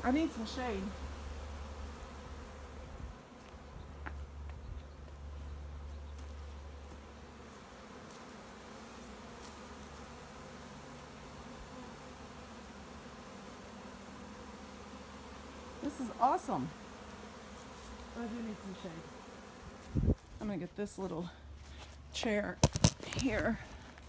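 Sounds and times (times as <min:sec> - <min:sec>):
bee swarm buzzing: 0:00.0 - 0:21.6.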